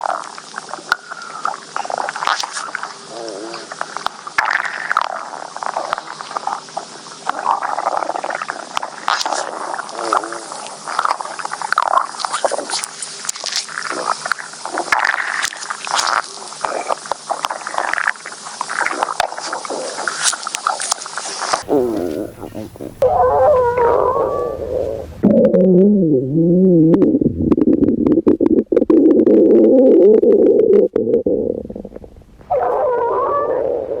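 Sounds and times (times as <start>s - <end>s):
stomach growling: 0.0s - 34.0s.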